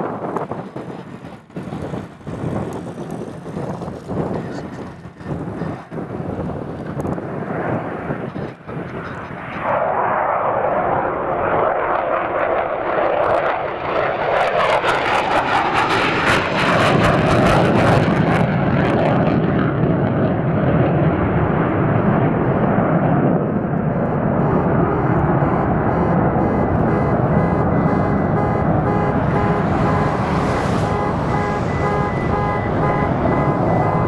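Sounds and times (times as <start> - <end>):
jet engines roaring and crackling: 0.0 - 34.0.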